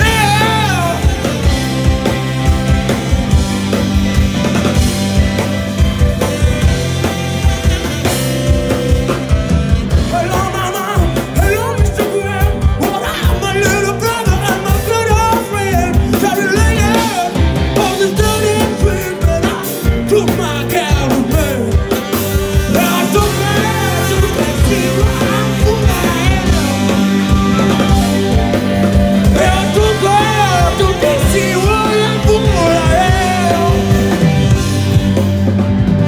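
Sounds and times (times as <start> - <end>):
lead melody: 0.0 - 36.0
live rock band playing: 0.0 - 36.0.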